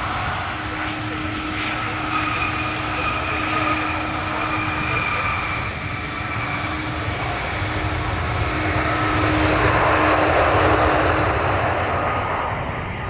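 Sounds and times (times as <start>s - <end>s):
jet airliner engine noise: 0.0s - 13.0s.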